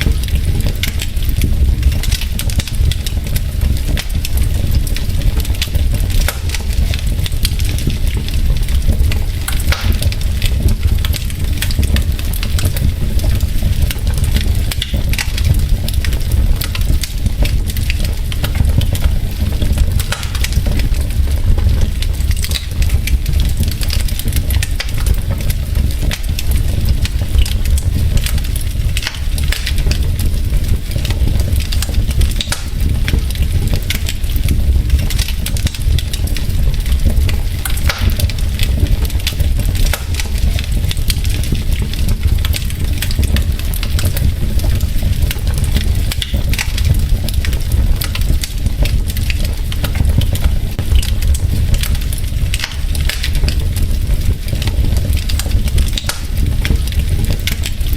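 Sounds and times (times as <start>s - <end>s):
logs crackling and popping: 0.0s - 57.9s
low rumble of flames: 0.0s - 57.9s.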